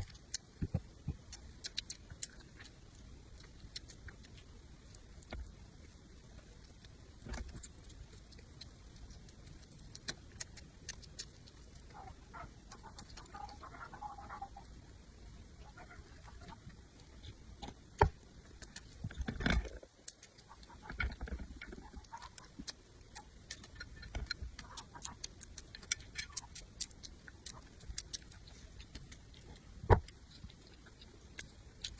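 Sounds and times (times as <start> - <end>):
chewing clicks and smacks: 0.0 - 15.0, 15.6 - 31.9.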